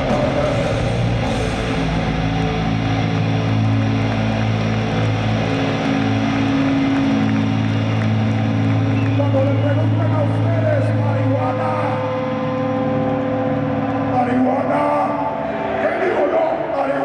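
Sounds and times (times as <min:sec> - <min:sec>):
crowd noise: 0:00.0 - 0:17.0
distorted guitars droning chord: 0:00.0 - 0:17.0.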